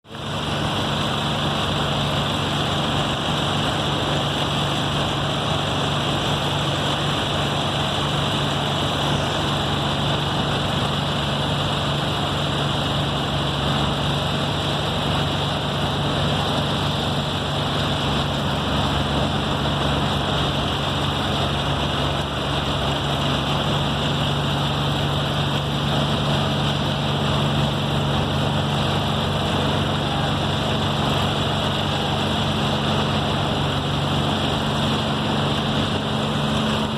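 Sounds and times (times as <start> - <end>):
construction machinery engine hum: 0.0 - 36.9
high-pitched engine whine: 0.1 - 36.9.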